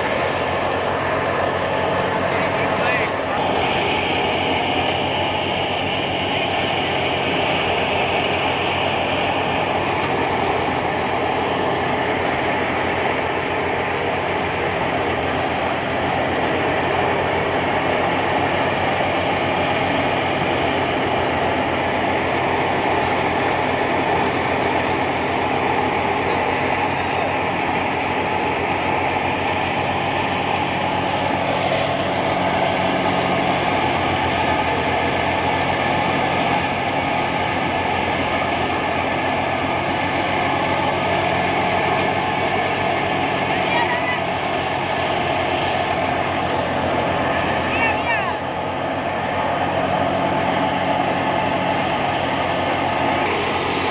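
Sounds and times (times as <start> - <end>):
thresher and tractor engine drone: 0.0 - 53.9.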